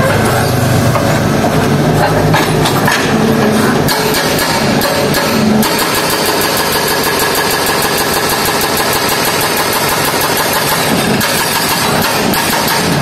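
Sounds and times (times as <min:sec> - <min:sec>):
diesel engine running: 0:00.0 - 0:13.0
rapid rattling vibration: 0:00.7 - 0:13.0.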